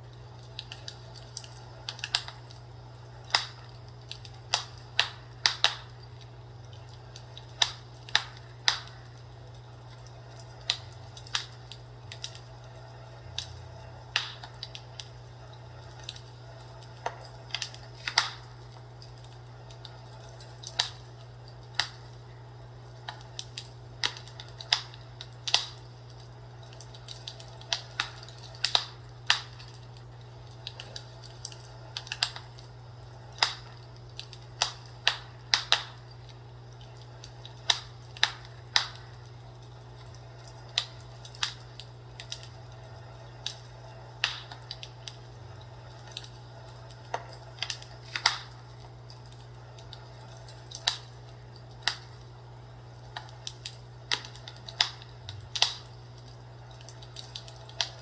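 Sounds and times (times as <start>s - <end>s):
fireplace crackling: 0.0s - 58.0s.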